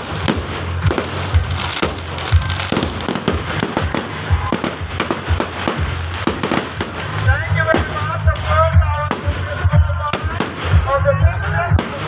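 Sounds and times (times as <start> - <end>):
firework shells bursting: 0.0 - 10.9
fireworks crackling: 0.0 - 12.0.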